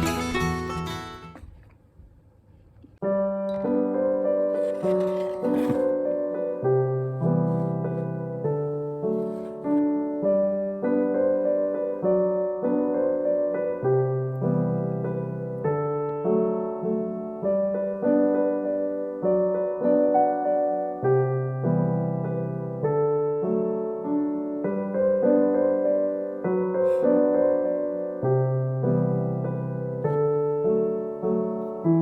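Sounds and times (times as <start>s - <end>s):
gentle piano music: 3.0s - 32.0s.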